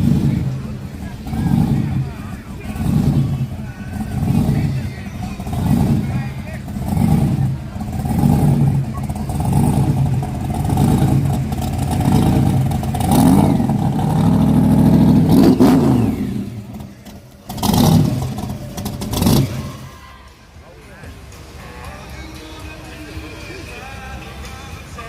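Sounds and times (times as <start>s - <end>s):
car engine revving: 0.0s - 20.1s.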